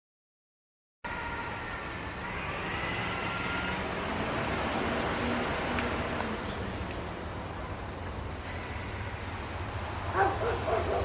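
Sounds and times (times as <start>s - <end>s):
train rumbling by: 1.1s - 11.0s.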